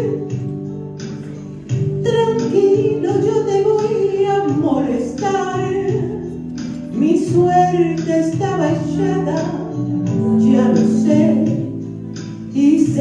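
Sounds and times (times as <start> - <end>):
woman singing ballad: 0.0 - 0.8, 1.7 - 13.0
karaoke backing track: 0.0 - 13.0.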